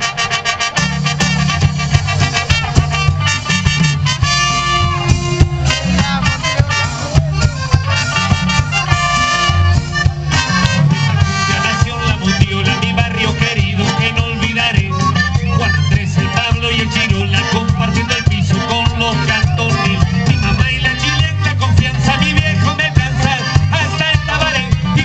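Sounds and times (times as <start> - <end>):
congas: 0.0 - 25.0
drums: 0.0 - 25.0
heavy bass: 0.0 - 25.0
trombone: 0.0 - 25.0
trumpet: 0.0 - 25.0
voices singing: 4.2 - 25.0.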